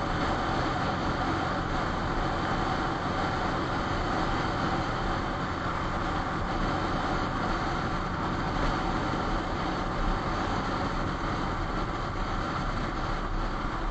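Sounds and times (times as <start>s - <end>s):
road noise: 0.0s - 13.9s.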